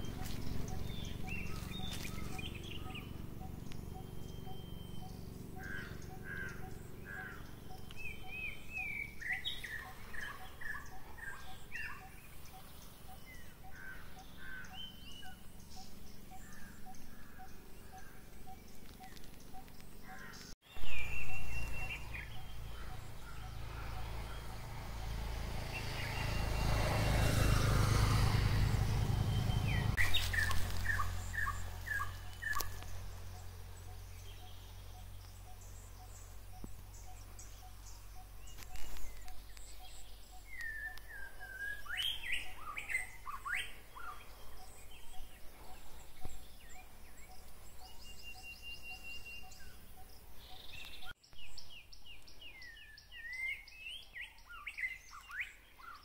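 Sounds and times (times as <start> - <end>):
birds calling and chirping: 0.0 - 56.0.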